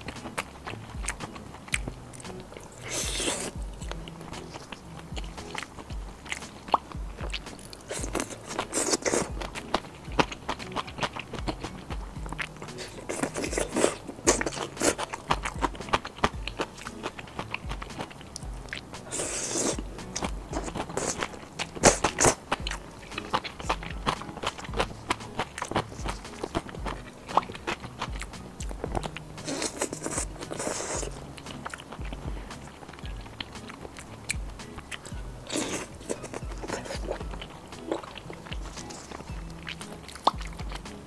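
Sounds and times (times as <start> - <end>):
crunchy bites and chewing: 0.0 - 41.0.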